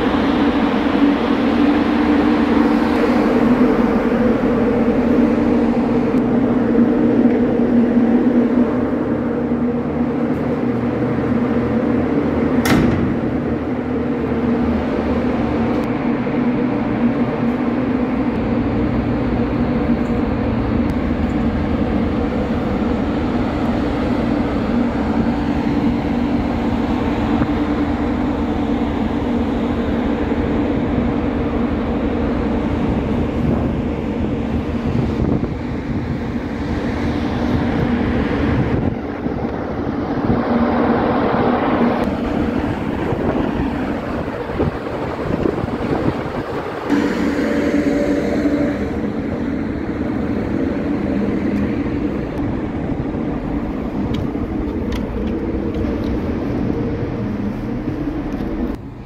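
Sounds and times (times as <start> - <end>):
ship machinery droning: 0.0 - 59.0
ventilation fans humming: 0.0 - 59.0.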